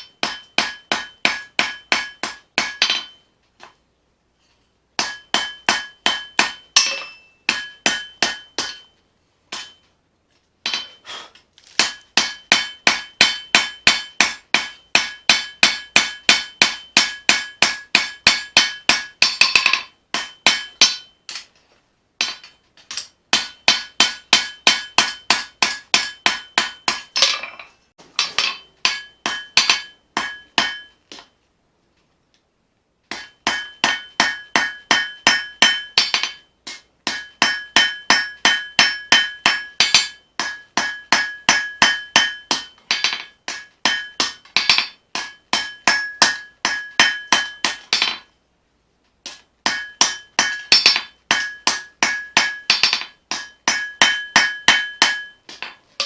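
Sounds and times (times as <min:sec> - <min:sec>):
hammer blows ringing on anvil: 0:00.0 - 0:03.3, 0:05.0 - 0:09.9, 0:10.6 - 0:11.1, 0:11.8 - 0:21.2, 0:22.2 - 0:31.3, 0:33.1 - 0:48.3, 0:49.3 - 0:55.8.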